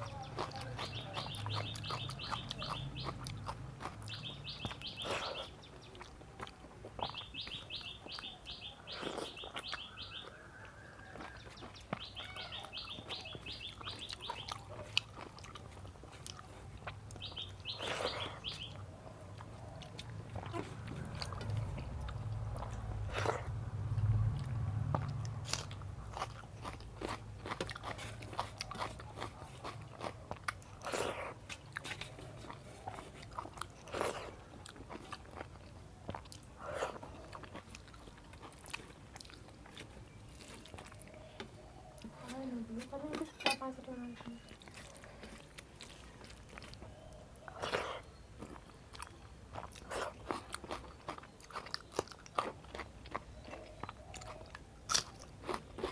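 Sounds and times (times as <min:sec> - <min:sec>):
person chewing crunchy food: 0:00.0 - 0:42.3, 0:44.3 - 0:55.9.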